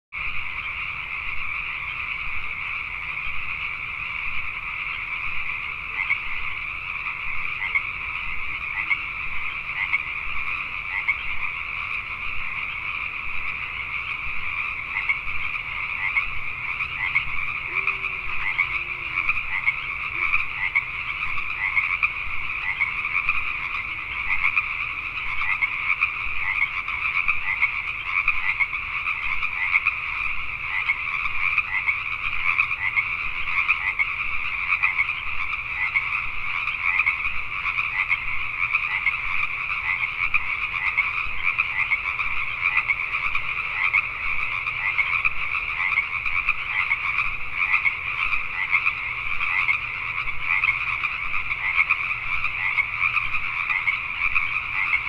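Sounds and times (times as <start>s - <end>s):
chorus of tree frogs calling: 0.2s - 55.0s.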